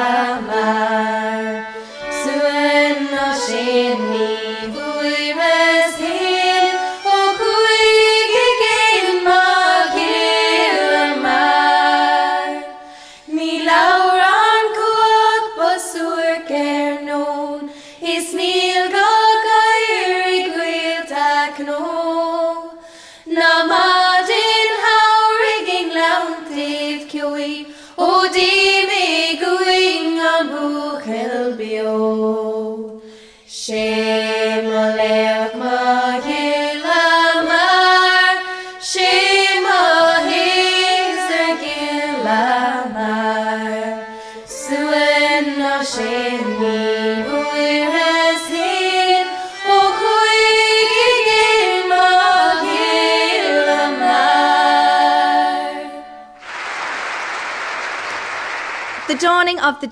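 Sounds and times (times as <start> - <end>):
women singing slow air: 0.0 - 56.0.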